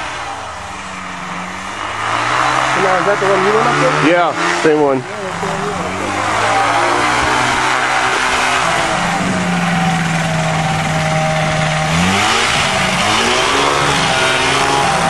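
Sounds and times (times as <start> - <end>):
propeller rushing: 0.0 - 15.0.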